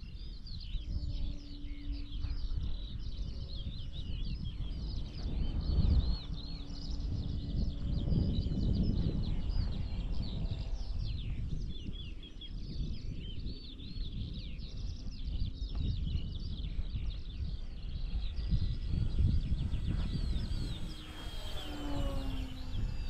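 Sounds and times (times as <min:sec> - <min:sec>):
songbirds chirping and warbling: 0:00.0 - 0:23.0
wind buffeting microphone: 0:00.0 - 0:23.0.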